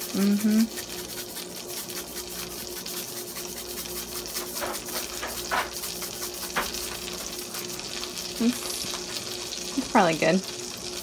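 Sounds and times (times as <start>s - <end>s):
butter sizzling in a skillet: 0.0s - 11.0s.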